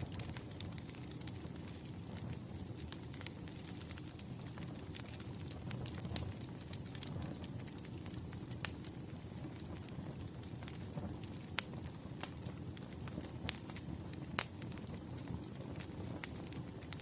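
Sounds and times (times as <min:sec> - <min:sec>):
fire burning low rumble: 0:00.0 - 0:17.0
fire crackling and popping: 0:00.0 - 0:17.0.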